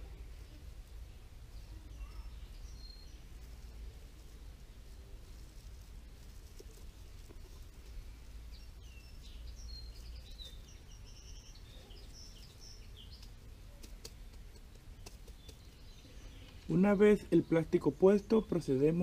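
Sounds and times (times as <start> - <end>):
low background rumble: 0.0 - 19.0
songbird chirping: 0.0 - 19.0.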